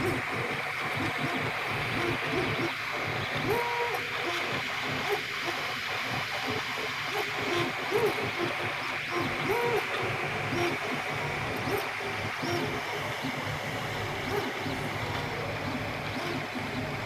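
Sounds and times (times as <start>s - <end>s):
stepper motors whining: 1.0s - 17.0s.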